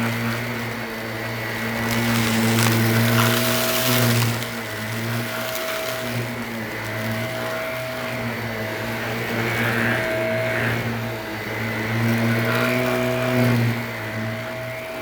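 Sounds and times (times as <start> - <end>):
vacuum cleaner running on carpet: 0.0 - 15.0.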